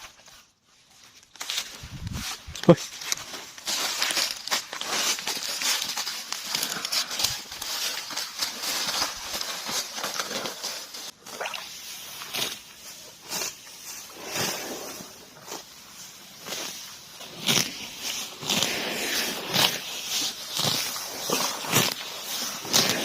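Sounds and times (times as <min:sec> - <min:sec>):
grass being torn and chewed: 0:01.1 - 0:23.0.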